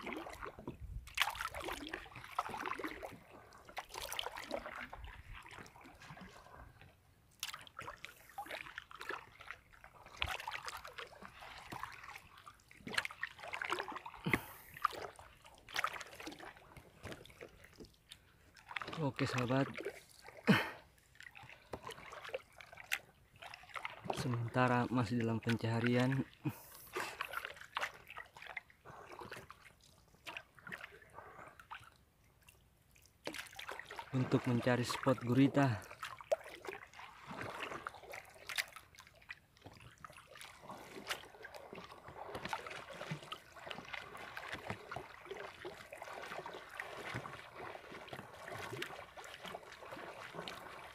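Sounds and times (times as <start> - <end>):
seawater splashing and sloshing: 0.0 - 50.9.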